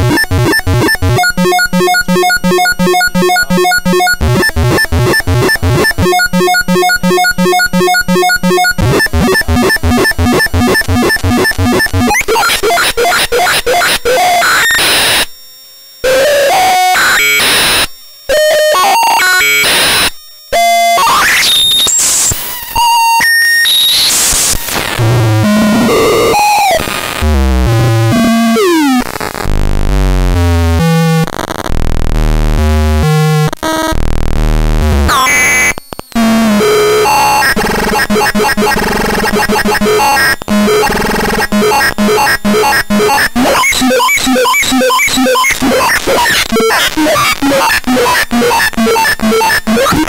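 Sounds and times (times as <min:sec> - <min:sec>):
harsh chiptune synth noise: 0:00.0 - 0:15.3, 0:16.0 - 0:50.0.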